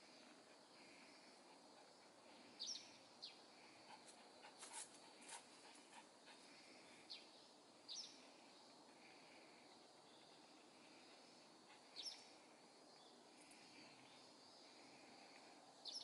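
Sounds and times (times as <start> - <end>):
faint background noise: 0.0 - 16.0
sparrows chirping: 0.0 - 16.0.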